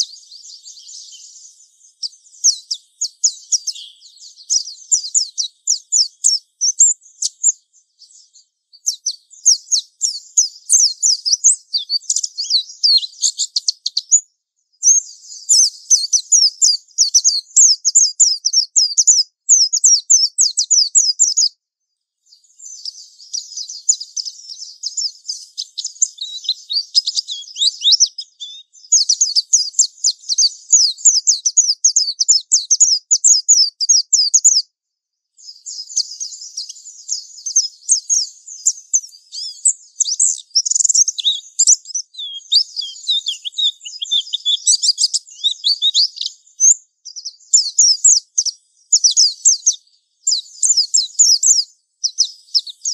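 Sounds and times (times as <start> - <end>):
bird twittering song: 0.0 - 52.9.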